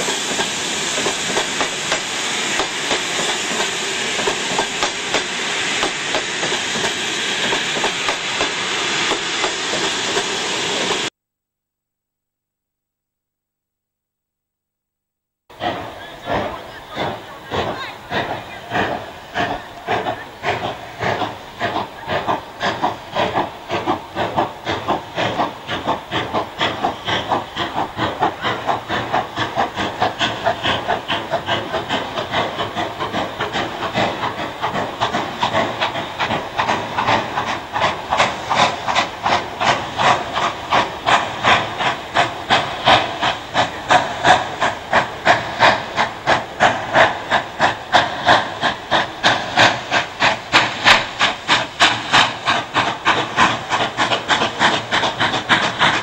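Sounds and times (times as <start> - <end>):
steam locomotive chuffing: 0.0 - 11.1, 15.5 - 56.0.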